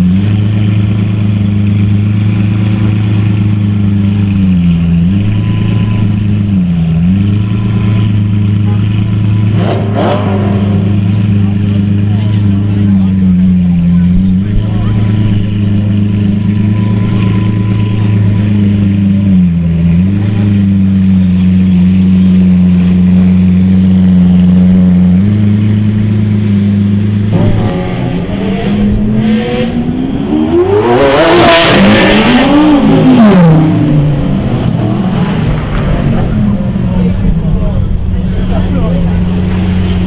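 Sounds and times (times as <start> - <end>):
car engine running at low revs: 0.0 - 40.0
sports car engine revving: 0.0 - 40.0.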